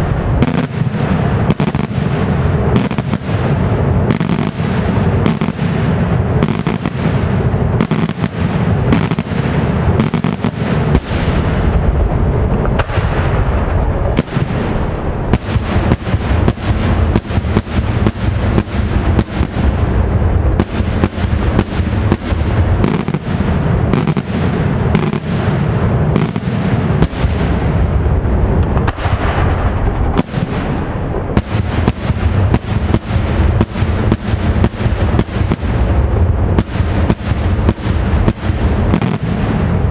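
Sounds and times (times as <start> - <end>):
continuous fireworks rumble: 0.0 - 39.9
fireworks bangs: 0.0 - 39.9.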